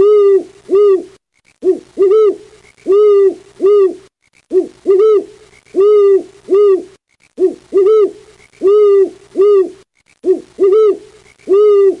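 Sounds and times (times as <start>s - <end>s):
owl hooting: 0.0s - 12.0s.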